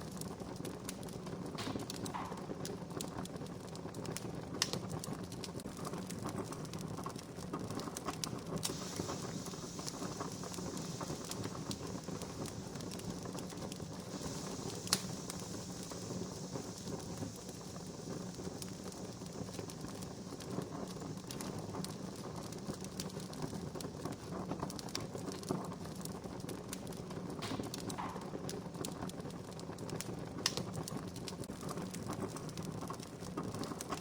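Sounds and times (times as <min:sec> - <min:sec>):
campfire crackling: 0:00.0 - 0:34.0
sharp fire pops: 0:00.0 - 0:34.0.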